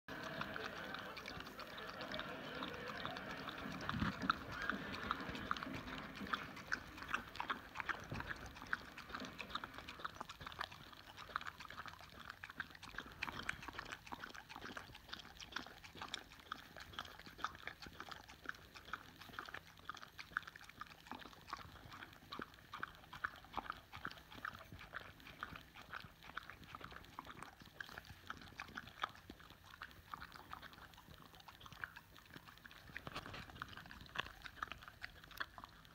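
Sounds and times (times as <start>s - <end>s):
dog licking and smacking: 0.1s - 35.9s.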